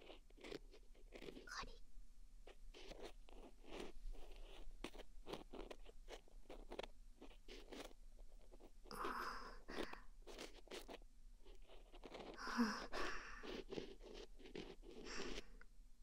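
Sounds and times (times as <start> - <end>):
earpick scraping inside ear: 0.0 - 1.5, 2.7 - 15.6.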